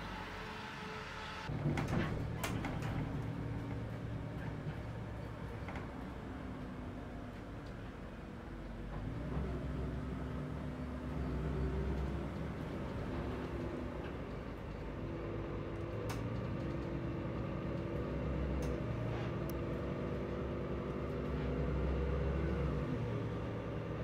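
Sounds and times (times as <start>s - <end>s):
bus engine humming: 0.0s - 24.0s.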